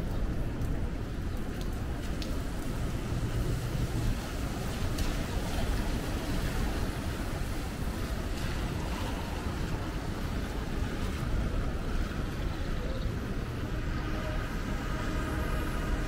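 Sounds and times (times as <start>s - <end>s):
low rumble of cars: 0.0s - 16.0s
tyres hissing on wet pavement: 0.3s - 16.0s.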